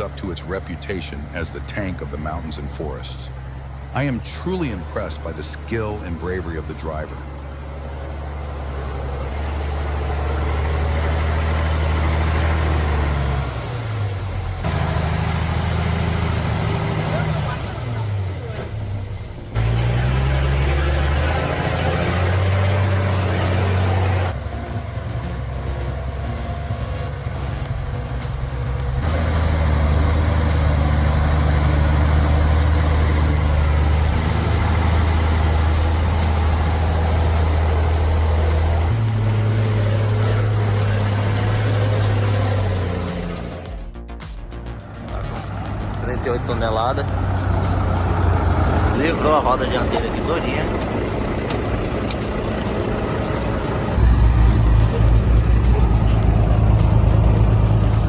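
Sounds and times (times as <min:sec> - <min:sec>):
truck engine low drone: 0:00.0 - 0:58.0.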